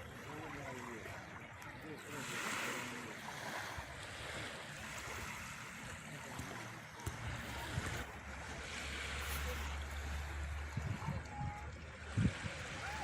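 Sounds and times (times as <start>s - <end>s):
waves washing in: 0.0s - 13.0s.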